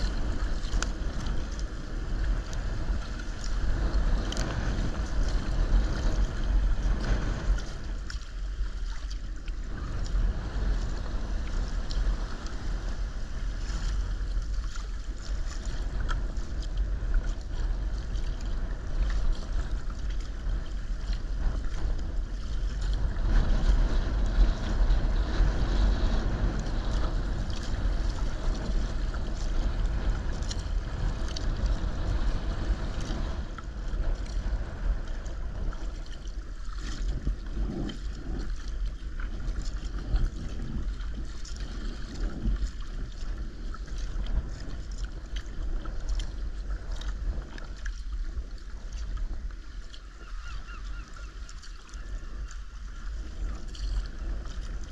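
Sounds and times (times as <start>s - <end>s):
water splashing against hull: 0.0s - 54.9s
wind buffeting microphone: 0.0s - 54.9s.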